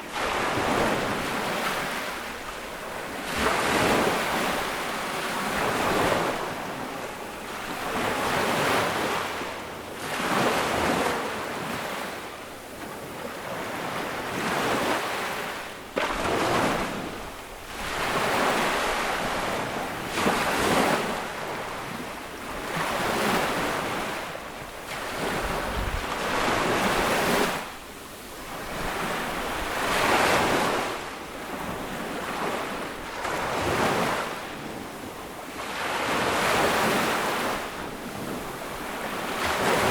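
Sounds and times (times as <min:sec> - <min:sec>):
small sea waves breaking: 0:00.0 - 0:39.9.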